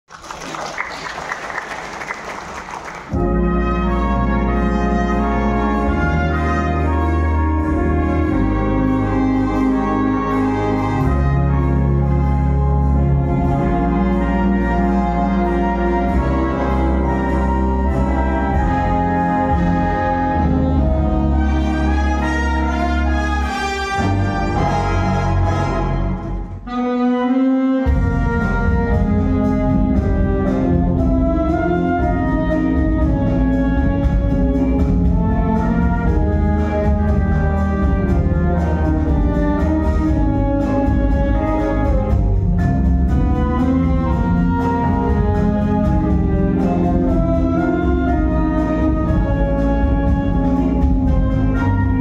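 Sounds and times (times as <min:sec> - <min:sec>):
wind band playing: 0:00.3 - 0:52.0.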